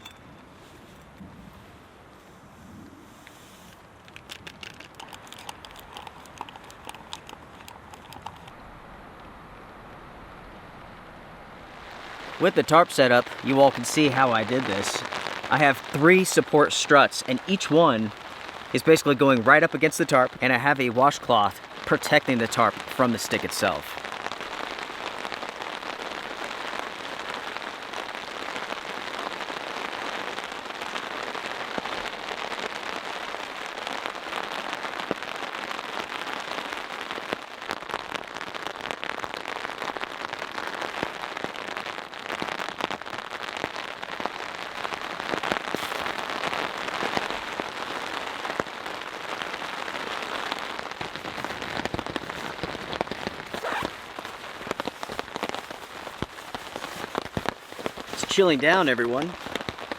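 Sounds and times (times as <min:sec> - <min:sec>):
rain drumming on a tarp: 0:03.6 - 0:59.9.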